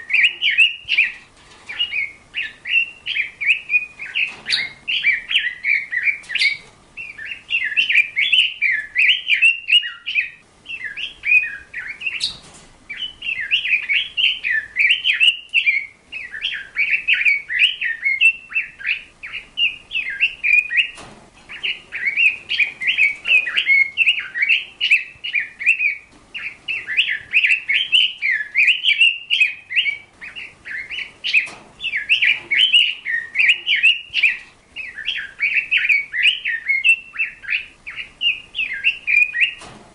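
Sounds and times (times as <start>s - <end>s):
bird warbling chatter: 0.0s - 39.6s.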